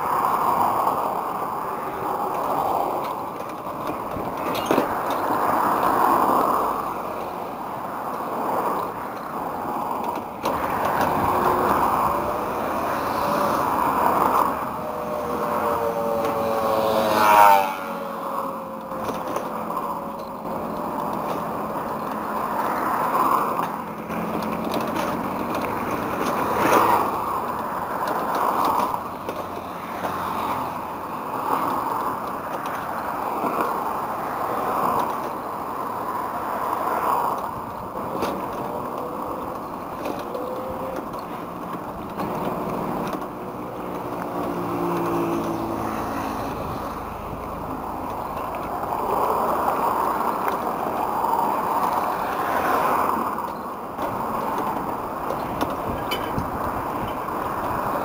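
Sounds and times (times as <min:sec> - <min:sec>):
cars and motorcycles passing: 0:00.0 - 0:58.0
road and wind noise: 0:00.0 - 0:58.0.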